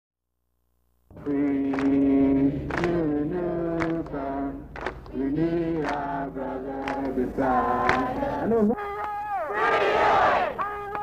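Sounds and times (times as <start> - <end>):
crowd chanting in unison: 1.2 - 10.8.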